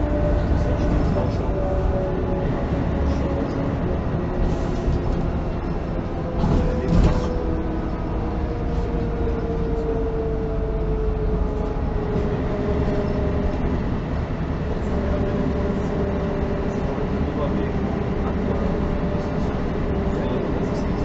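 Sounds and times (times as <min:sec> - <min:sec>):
bus engine rumble from inside: 0:00.0 - 0:21.0.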